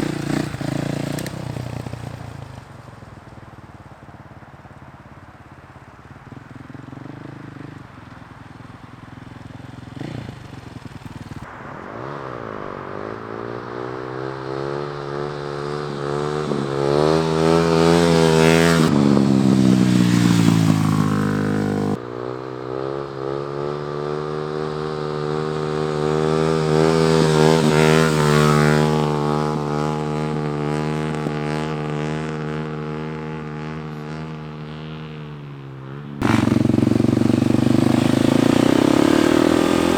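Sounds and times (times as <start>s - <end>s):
dirt bike engine passing: 0.0s - 39.9s.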